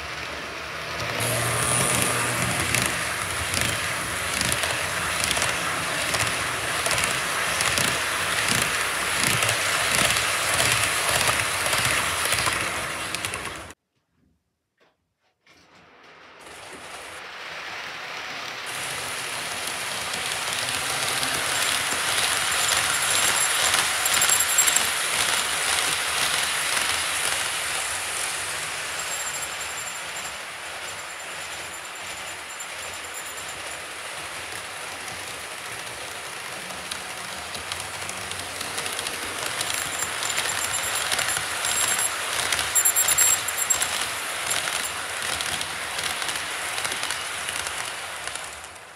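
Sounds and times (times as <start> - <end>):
model train rumbling: 0.0 - 13.8, 16.4 - 48.9
wheels clicking on track: 0.0 - 13.8, 16.5 - 48.9.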